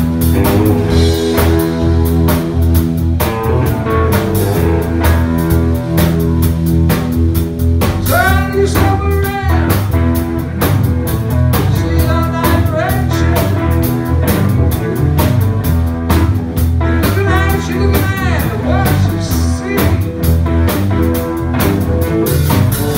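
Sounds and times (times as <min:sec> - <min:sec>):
bass guitar: 0:00.0 - 0:22.9
drum kit: 0:00.0 - 0:22.9
electric guitars: 0:00.0 - 0:22.9
lead guitar bending notes: 0:00.0 - 0:22.9.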